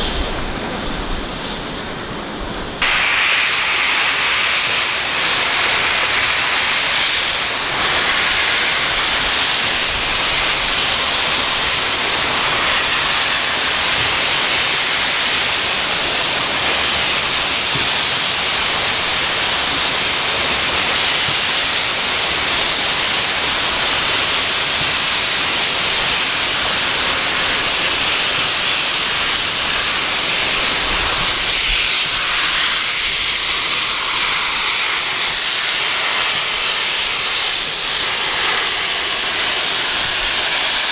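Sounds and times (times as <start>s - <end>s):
steam venting hiss: 0.0s - 40.9s.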